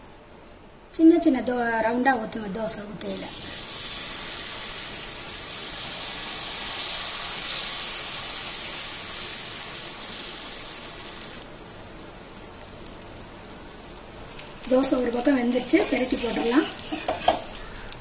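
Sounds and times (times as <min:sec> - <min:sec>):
batter sizzling on a griddle: 0:03.0 - 0:18.0.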